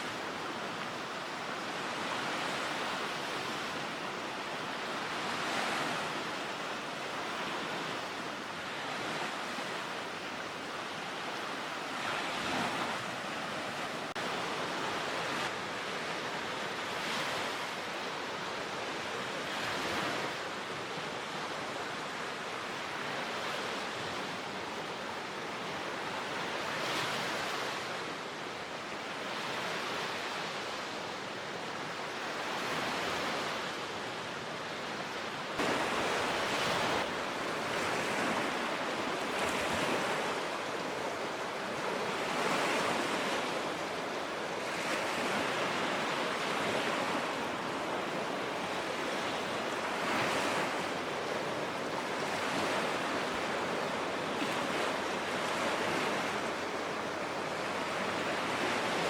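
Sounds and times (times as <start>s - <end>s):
lake waves washing on shore: 0.0s - 59.0s.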